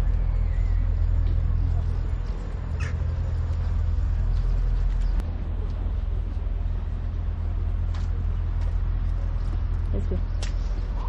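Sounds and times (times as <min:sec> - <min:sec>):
low city rumble: 0:00.0 - 0:11.0.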